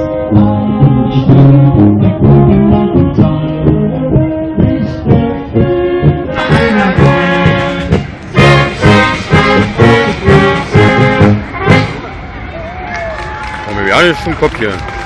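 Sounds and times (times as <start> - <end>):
brass band playing: 0.0 - 12.6.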